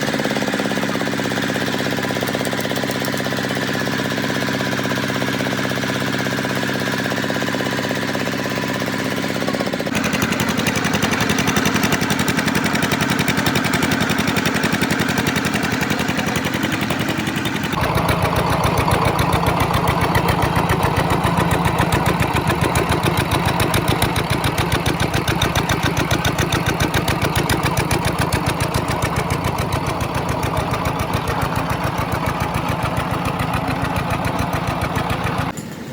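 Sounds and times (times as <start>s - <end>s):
diesel engine chugging: 0.0s - 35.9s.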